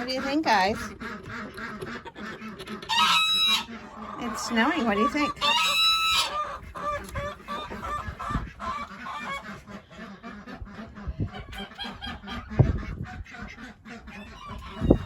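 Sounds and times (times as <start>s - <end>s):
poultry calling: 0.0s - 15.0s.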